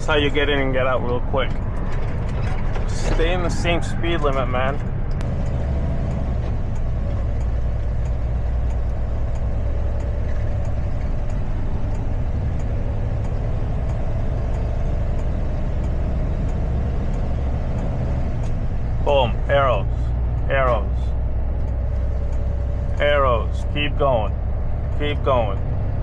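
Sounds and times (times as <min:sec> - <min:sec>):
truck engine drone: 0:00.0 - 0:26.0
faint even ticking: 0:04.3 - 0:26.0.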